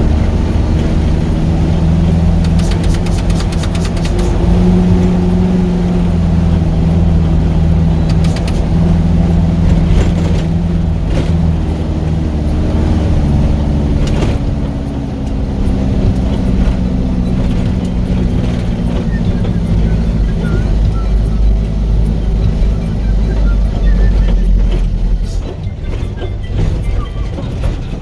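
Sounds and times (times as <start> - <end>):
knocks and rattles from bumps: 0.0 - 28.0
truck engine running: 0.0 - 28.0.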